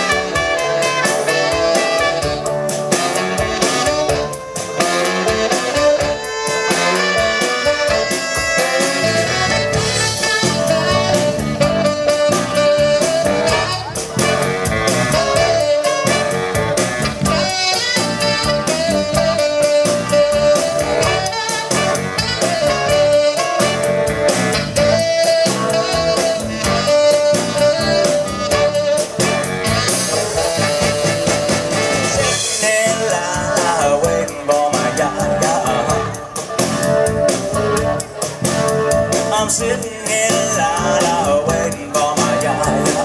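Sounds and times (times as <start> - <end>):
drums: 0.0 - 43.0
electric bass: 0.0 - 43.0
electric guitar: 0.0 - 43.0
horn section: 0.0 - 43.0
tenor saxophone: 0.0 - 43.0.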